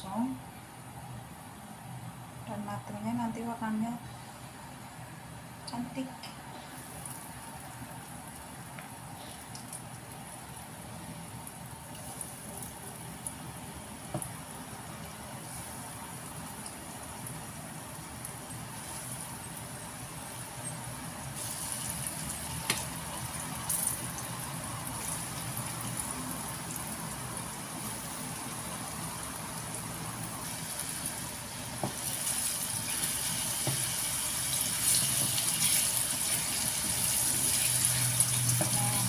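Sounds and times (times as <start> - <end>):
tofu sizzling in hot oil: 6.8 - 39.0.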